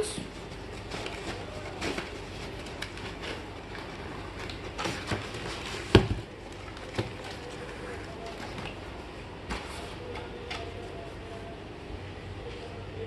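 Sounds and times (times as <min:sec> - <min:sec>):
packaging rustling: 0:00.2 - 0:11.0.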